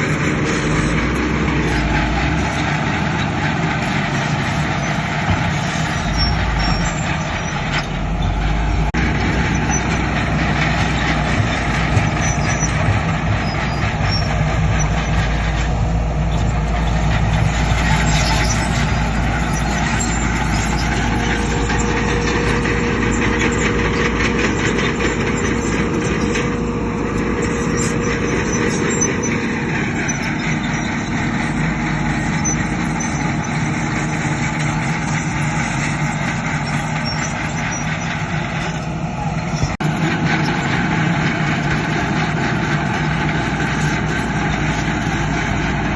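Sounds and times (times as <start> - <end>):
diesel machinery engines rumbling: 0.0 - 45.9.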